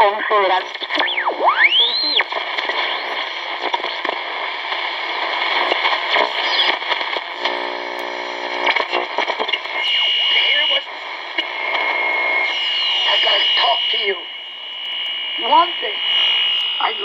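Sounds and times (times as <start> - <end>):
radio static and hiss: 0.0 - 17.0.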